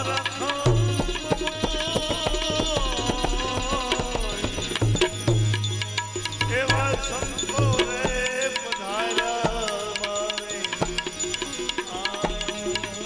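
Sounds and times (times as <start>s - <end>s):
tabla strokes: 0.0s - 13.0s.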